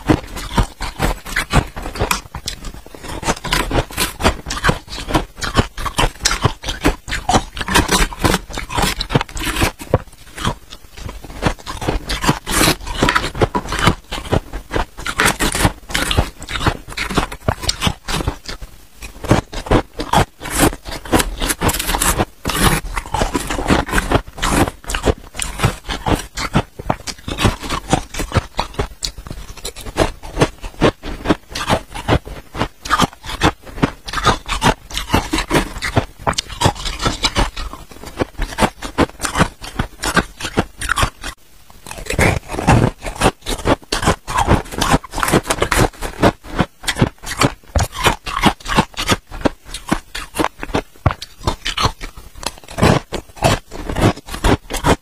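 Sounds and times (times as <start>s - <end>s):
metal spoon scraping frost: 0.0s - 46.2s
crunching frost in teeth: 0.0s - 55.0s.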